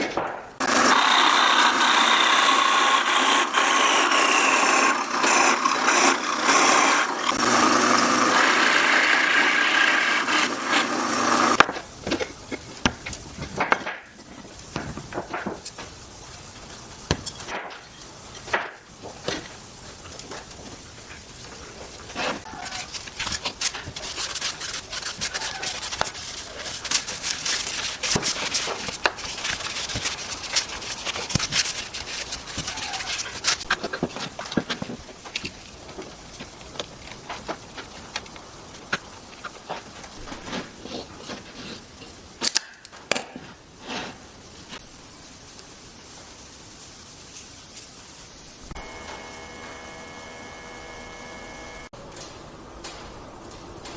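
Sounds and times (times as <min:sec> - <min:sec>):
steady hiss: 0:08.0 - 0:53.9.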